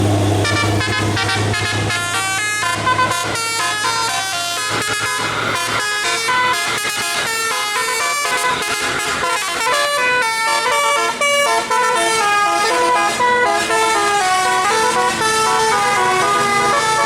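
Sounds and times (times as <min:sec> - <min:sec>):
bus musical air horn: 0:00.4 - 0:17.0.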